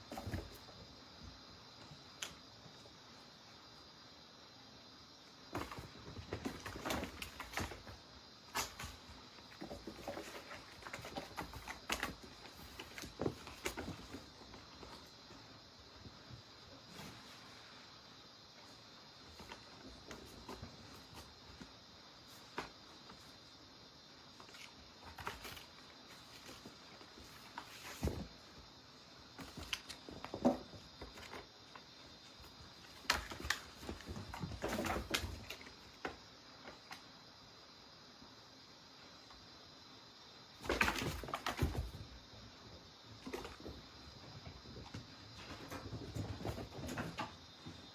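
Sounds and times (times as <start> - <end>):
cats scuffling and pawing: 0.0 - 4.0, 5.1 - 37.5, 40.4 - 47.9.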